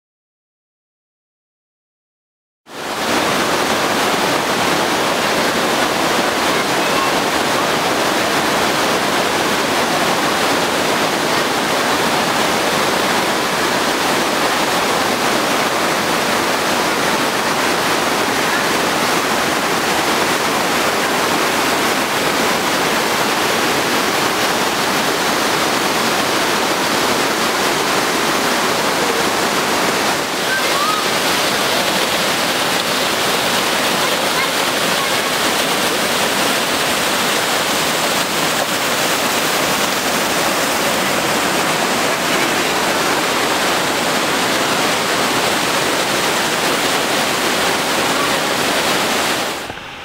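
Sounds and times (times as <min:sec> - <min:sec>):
water rushing over rock: 0:02.7 - 0:50.0.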